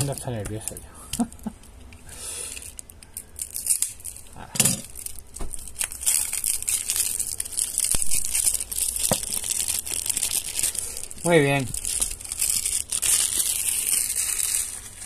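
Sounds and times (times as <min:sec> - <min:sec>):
plastic shrink-wrap tearing and crinkling: 0:00.0 - 0:00.8, 0:02.2 - 0:15.0.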